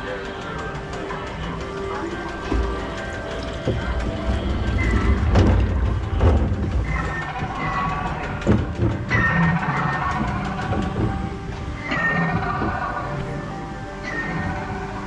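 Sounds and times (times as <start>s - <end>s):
boat knocking: 0.0s - 15.0s
flume boat rumbling in water channel: 0.0s - 15.0s.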